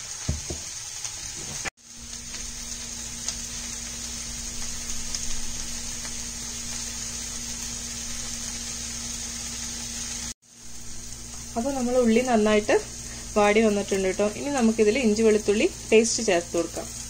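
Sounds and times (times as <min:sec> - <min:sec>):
onions sizzling in hot oil: 0:00.0 - 0:17.0
steady low hum: 0:01.9 - 0:17.0.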